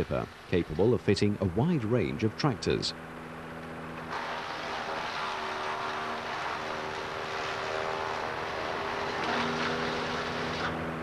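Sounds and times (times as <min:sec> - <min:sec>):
wood chipper running: 0:00.0 - 0:11.0.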